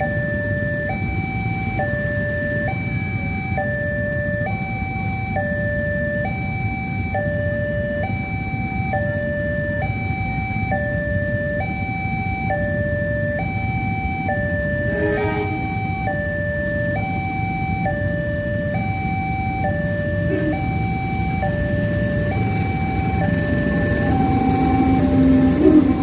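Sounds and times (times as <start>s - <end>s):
crossing siren two-tone wail: 0.0s - 26.0s.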